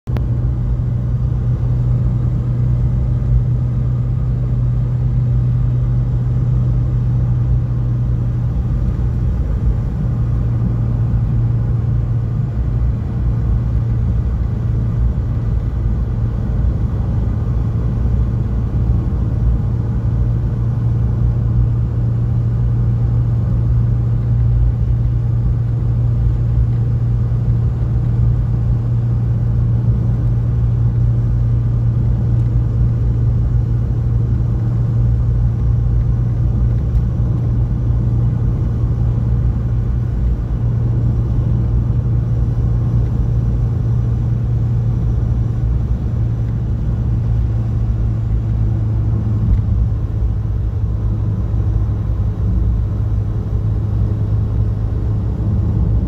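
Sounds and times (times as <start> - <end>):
car engine running steadily: 0.0 - 56.0
road and tyre rumble: 0.1 - 56.0.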